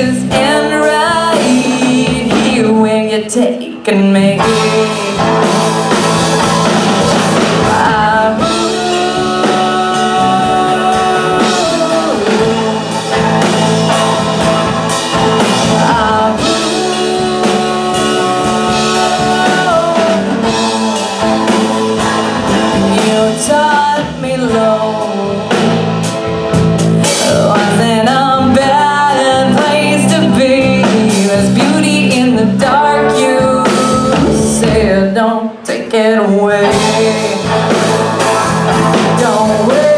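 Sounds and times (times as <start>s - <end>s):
electric bass: 0.0s - 3.3s, 4.1s - 35.2s, 36.5s - 39.9s
woman singing: 0.0s - 26.2s, 26.9s - 39.9s
drum kit: 0.0s - 39.9s
electric guitar: 0.0s - 39.9s.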